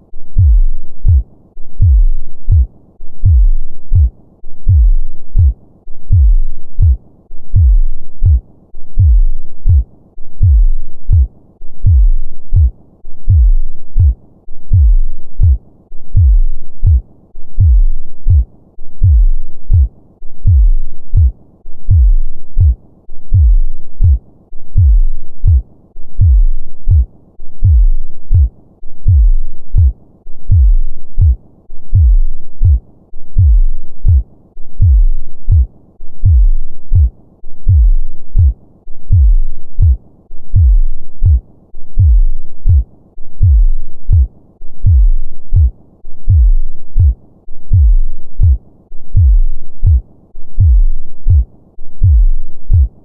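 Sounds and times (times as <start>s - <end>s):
heartbeat thuds: 0.4s - 9.8s, 10.4s - 17.0s, 17.6s - 25.6s, 26.2s - 50.0s, 50.6s - 53.0s.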